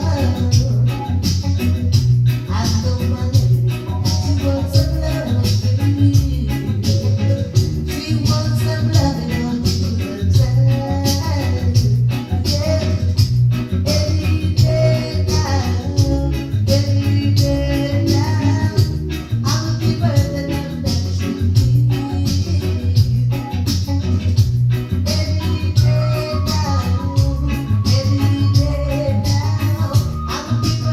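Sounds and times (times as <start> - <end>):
reggae music: 0.0 - 30.9.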